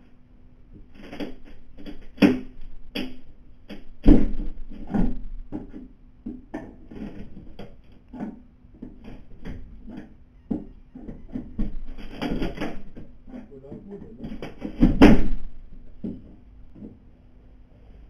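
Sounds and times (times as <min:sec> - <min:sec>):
faint steady hum: 0:00.0 - 0:18.0
window being forced with tools: 0:00.7 - 0:17.0.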